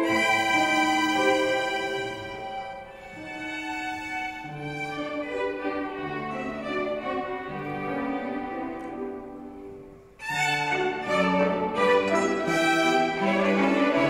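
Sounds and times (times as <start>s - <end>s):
children's violin ensemble playing: 0.0s - 14.0s.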